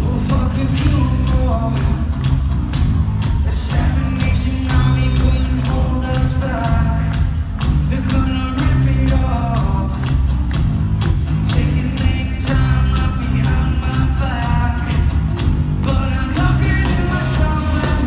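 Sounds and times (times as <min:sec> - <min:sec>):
person singing lead vocal: 0:00.0 - 0:02.3, 0:03.2 - 0:10.2, 0:11.4 - 0:15.2, 0:15.8 - 0:18.0
distorted guitars: 0:00.0 - 0:18.0
drum beat: 0:00.0 - 0:18.0
live rock band: 0:00.0 - 0:18.0.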